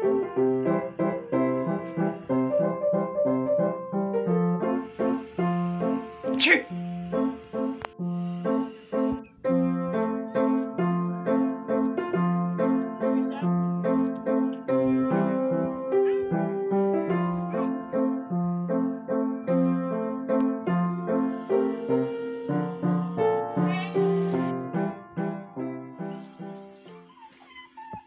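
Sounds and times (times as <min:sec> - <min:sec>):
piano music: 0:00.0 - 0:27.3.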